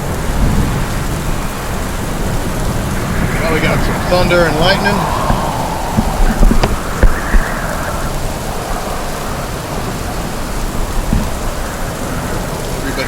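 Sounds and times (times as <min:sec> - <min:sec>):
heavy rain: 0:00.0 - 0:13.0
wind: 0:00.0 - 0:13.0.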